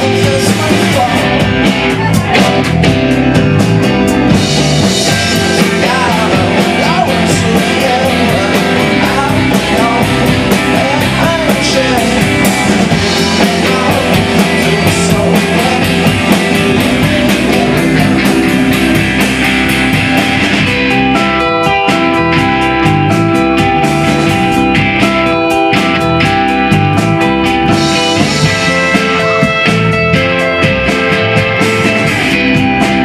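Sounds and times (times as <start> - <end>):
bass guitar: 0.0 - 33.0
electric guitar: 0.0 - 33.0
steady drum beat: 0.0 - 33.0.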